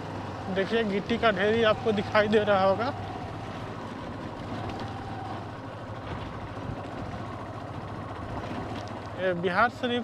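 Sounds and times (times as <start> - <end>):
motorbike engine running: 0.0 - 10.0
road noise: 0.0 - 10.0.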